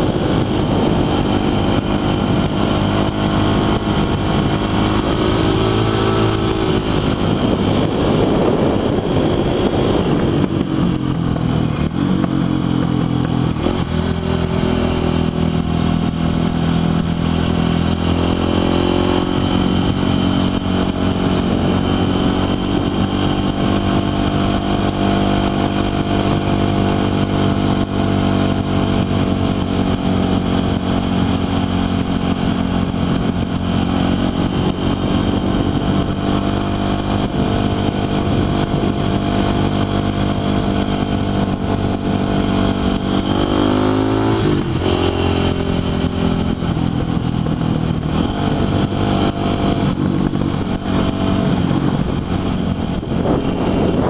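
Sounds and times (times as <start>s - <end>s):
motorcycle engine running: 0.0s - 54.0s
wind noise: 0.0s - 54.0s.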